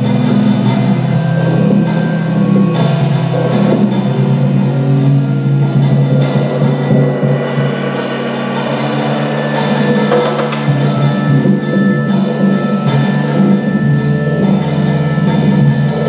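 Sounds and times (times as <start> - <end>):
drum kit and cymbals: 0.0 - 16.0
organ chords: 0.0 - 16.0.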